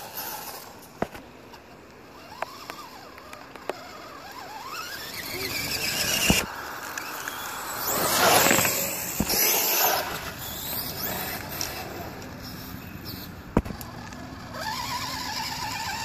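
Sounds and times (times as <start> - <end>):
tyre noise on wet road: 0.0 - 16.0
electric motor whining: 2.1 - 16.0.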